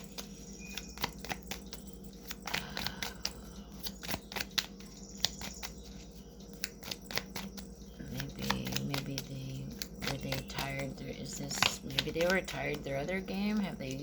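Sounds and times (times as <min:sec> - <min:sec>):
cards being shuffled: 0:00.0 - 0:13.0
steady low hum: 0:00.0 - 0:14.0.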